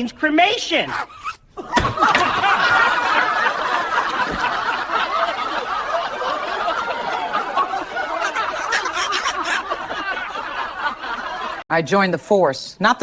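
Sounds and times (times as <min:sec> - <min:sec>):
crowd laughing: 0:01.0 - 0:11.6.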